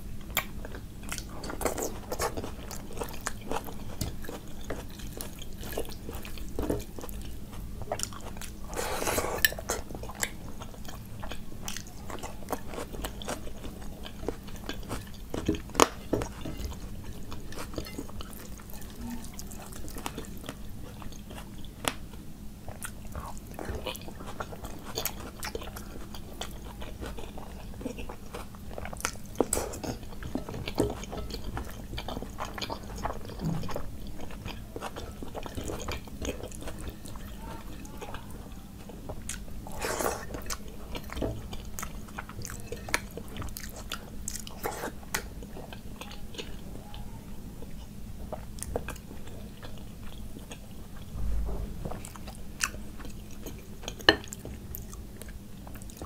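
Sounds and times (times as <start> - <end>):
person chewing: 0.3 - 22.0, 22.6 - 46.8, 47.6 - 56.0.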